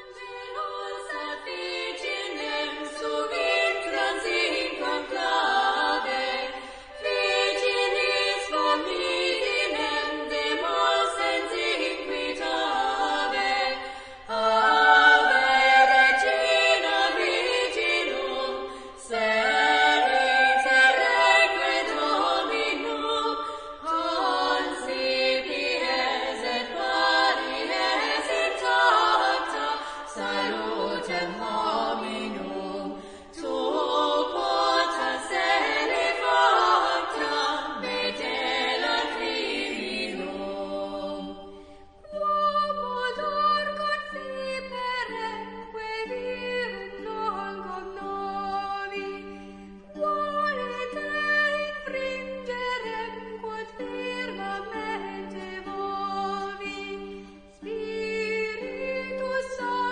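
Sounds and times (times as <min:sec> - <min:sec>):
voices singing a slow chant: 0:00.0 - 0:59.9.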